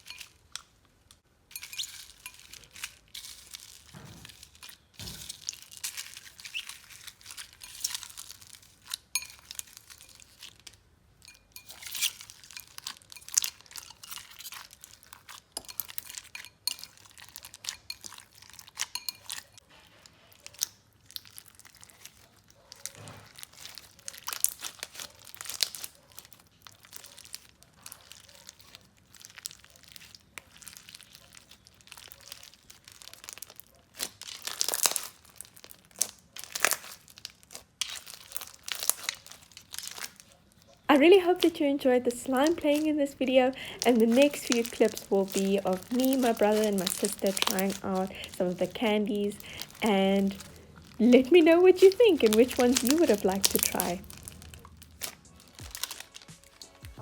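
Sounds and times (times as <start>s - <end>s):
slime crackling and popping: 0.0s - 57.0s.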